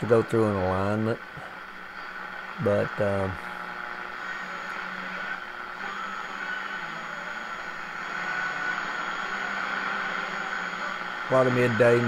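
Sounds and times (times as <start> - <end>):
faint radio station: 0.0 - 12.0
radio static hissing: 0.0 - 12.0.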